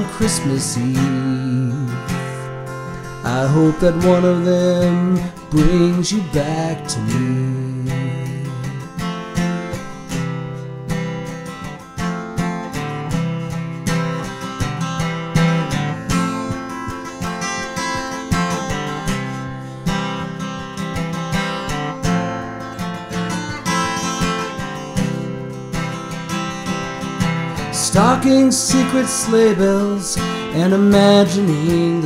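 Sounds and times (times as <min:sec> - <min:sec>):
acoustic guitar strummed: 0:00.0 - 0:32.0.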